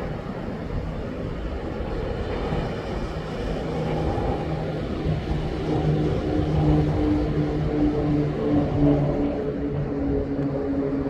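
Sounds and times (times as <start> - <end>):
outdoor noise rushing: 0.0 - 11.0
low motor drone: 2.0 - 11.0.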